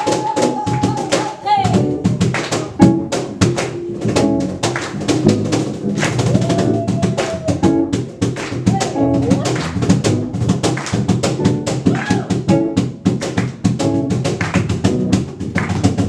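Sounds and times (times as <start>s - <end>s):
quick percussive beat: 0.0s - 16.0s.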